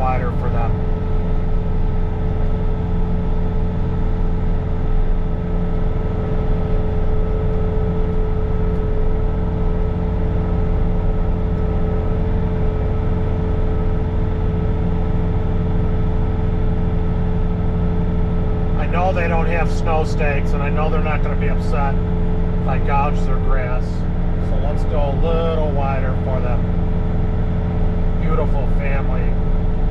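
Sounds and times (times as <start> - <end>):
diesel engine running at high revs: 0.0 - 29.9
snow blower whine: 0.0 - 29.9.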